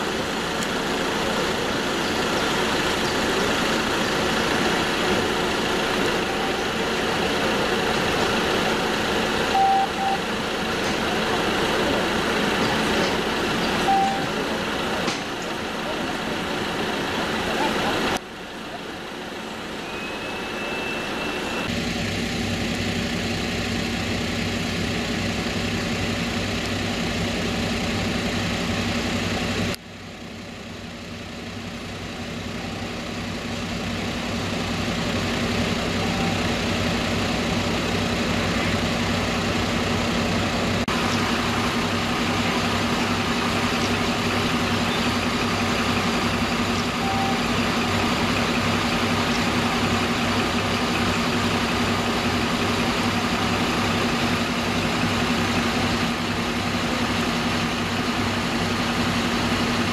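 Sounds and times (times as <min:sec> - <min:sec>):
fire engines idling: 0:00.0 - 0:59.9.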